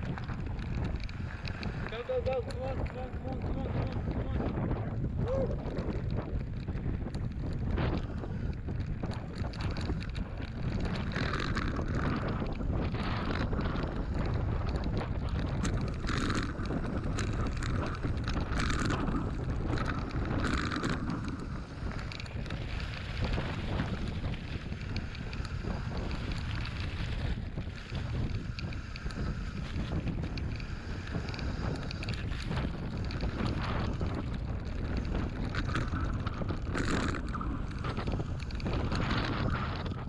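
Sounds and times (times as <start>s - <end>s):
bike clicks and rattles: 0.0s - 40.0s
bike tyres on stony dirt track: 0.0s - 40.0s
wind buffeting microphone: 0.0s - 40.0s.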